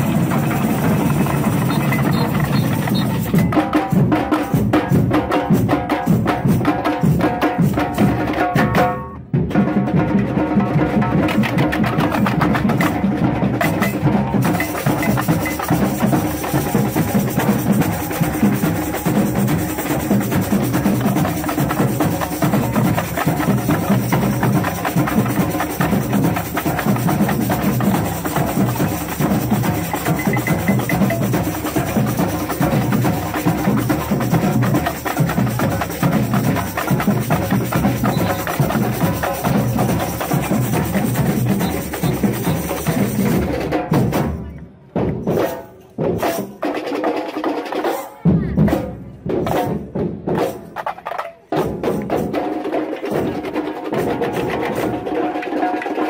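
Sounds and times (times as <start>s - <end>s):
massed drums playing groove: 0.0s - 46.7s.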